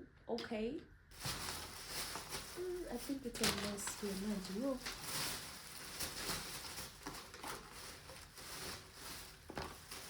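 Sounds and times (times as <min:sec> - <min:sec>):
packaging rustling: 0:01.1 - 0:10.0.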